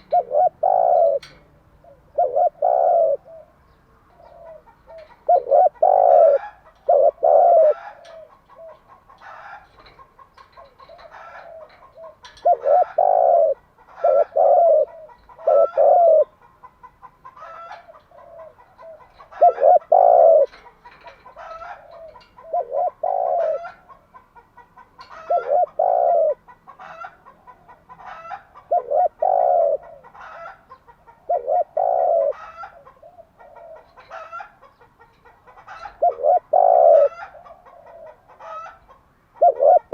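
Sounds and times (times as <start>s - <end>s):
dove cooing: 0.0s - 16.4s, 17.3s - 24.2s, 25.0s - 34.8s, 35.4s - 39.9s.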